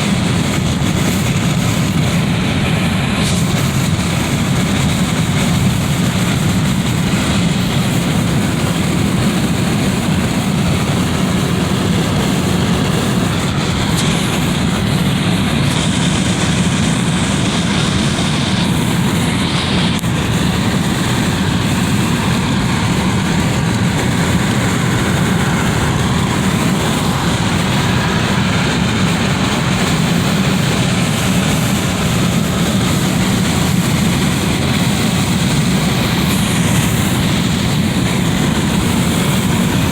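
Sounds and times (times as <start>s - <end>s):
wind rushing through window: 0.0s - 39.9s.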